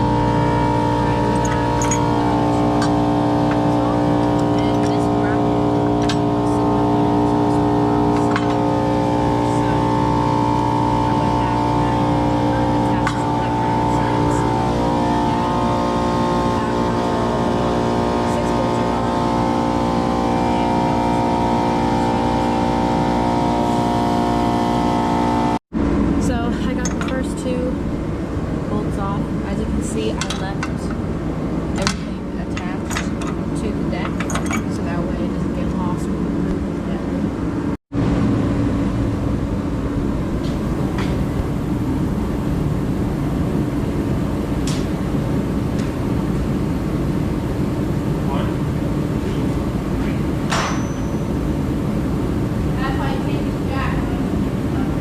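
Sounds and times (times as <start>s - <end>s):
motor humming with high whine: 0.0s - 55.0s
vehicle engine droning: 0.0s - 55.0s.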